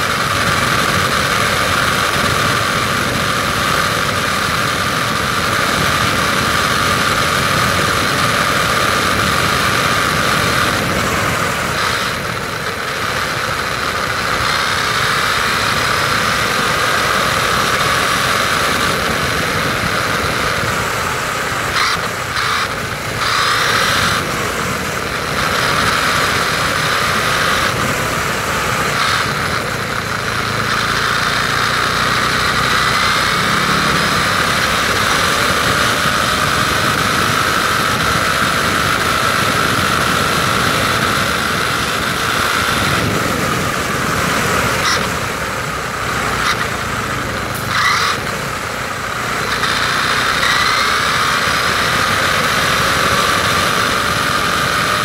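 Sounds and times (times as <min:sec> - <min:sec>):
electric motor whining: 0:00.0 - 0:55.0.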